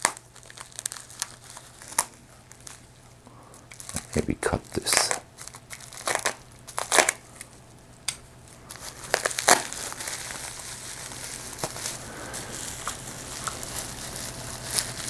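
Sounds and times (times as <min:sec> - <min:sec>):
packaging crinkling: 0:00.0 - 0:07.3, 0:08.5 - 0:15.0.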